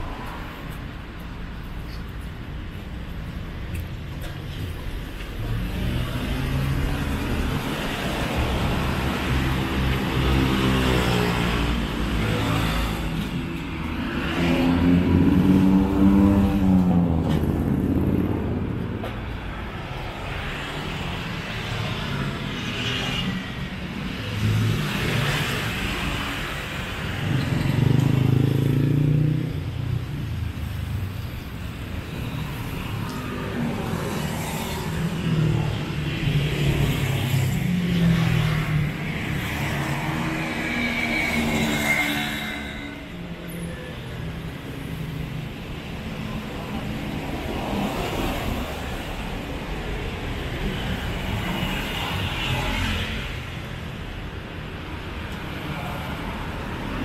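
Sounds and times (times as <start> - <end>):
cars and scooters driving past: 4.0 - 57.0.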